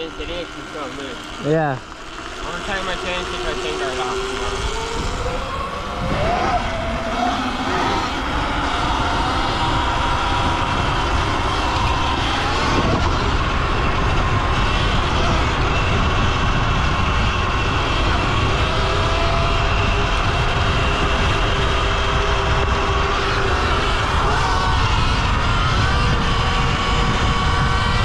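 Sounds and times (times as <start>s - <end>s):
electric motor whine: 0.0s - 28.0s
wind noise on microphone: 2.3s - 28.0s.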